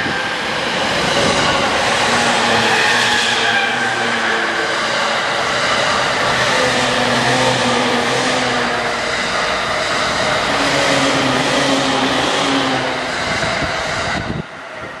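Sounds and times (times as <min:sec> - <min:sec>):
electric train passing: 0:00.0 - 0:15.0
rail and wheel noise: 0:00.0 - 0:15.0.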